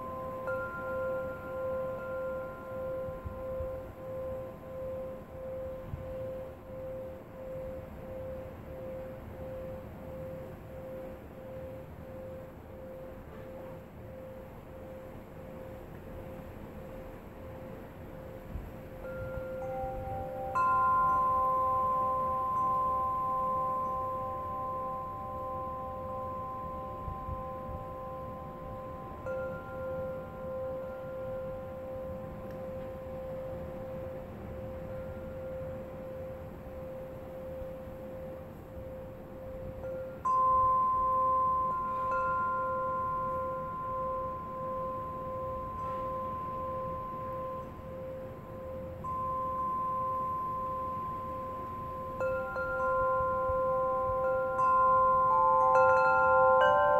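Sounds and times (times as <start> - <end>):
low steady rush of noise: 0.0 - 56.9
wind chime ringing: 0.0 - 56.9.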